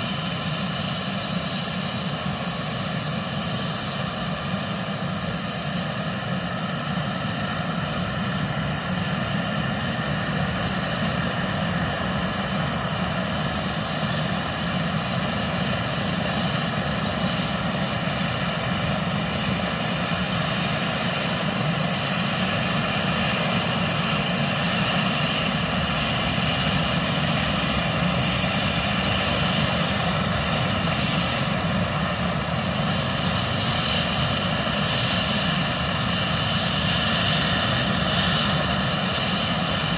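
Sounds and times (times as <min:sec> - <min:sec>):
helicopter engines and rotor whirring: 0:00.0 - 0:39.9
high turbine whine: 0:00.0 - 0:39.9.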